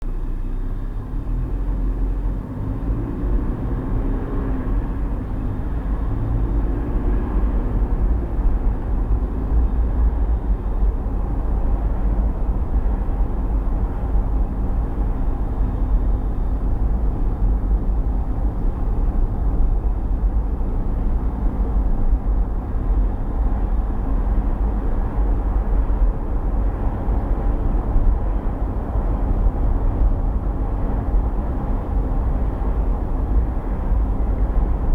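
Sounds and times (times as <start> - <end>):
car road and engine rumble: 0.0 - 34.9.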